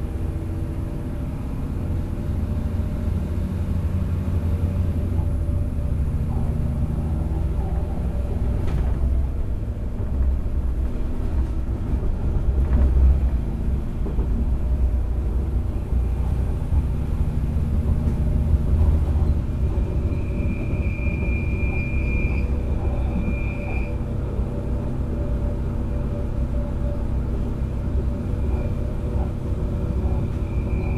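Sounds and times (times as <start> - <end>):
train engine and wheels rumbling: 0.0 - 30.9.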